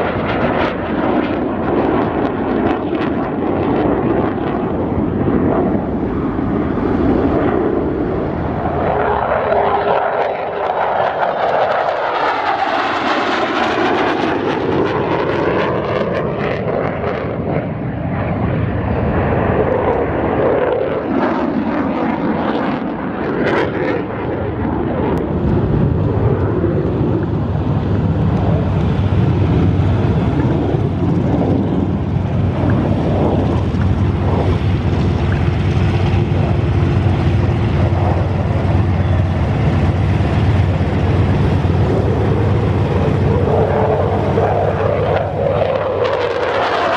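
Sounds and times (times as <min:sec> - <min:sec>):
deep jet rumble: 0:00.0 - 0:46.9
jet engine flying past: 0:00.0 - 0:46.9.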